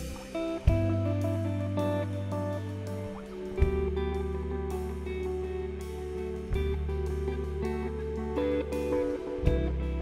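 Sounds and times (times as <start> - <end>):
deep sustained bass notes: 0.0 - 10.0
guitar notes: 0.0 - 10.0.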